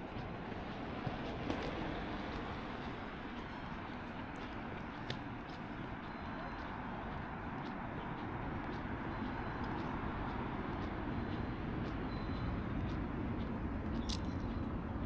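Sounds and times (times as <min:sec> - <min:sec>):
faint ticks: 0:00.2 - 0:14.7.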